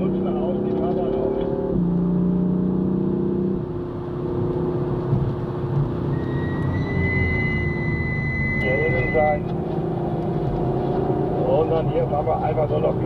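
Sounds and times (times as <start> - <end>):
car engine accelerating: 0.0 - 13.0
road and tyre rumble: 0.0 - 13.0.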